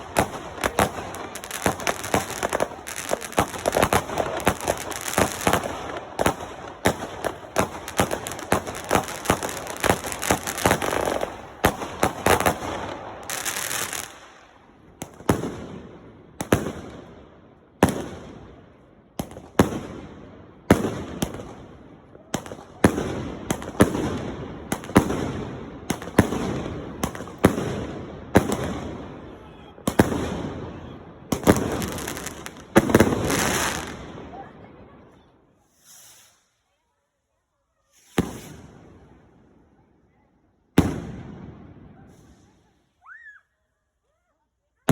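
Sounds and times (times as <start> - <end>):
fireworks bangs and crackle: 0.0 - 36.6, 37.8 - 42.8.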